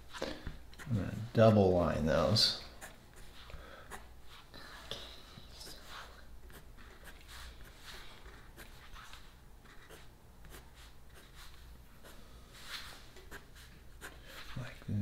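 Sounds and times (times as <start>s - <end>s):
pencils scratching on paper: 0.1s - 14.9s.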